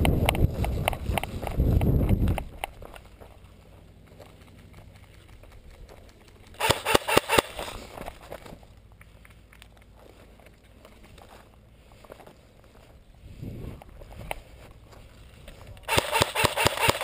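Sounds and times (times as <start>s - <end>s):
faint rustling and ticks: 0.0s - 6.6s, 7.6s - 15.9s.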